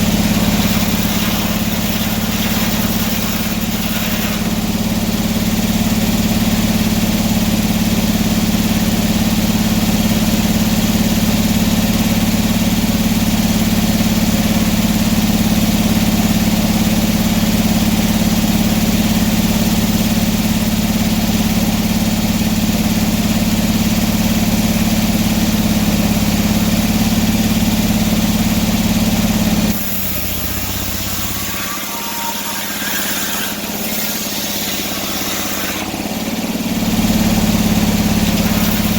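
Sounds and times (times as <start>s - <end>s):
sawmill engine deep hum: 0.0s - 20.7s, 22.8s - 38.9s.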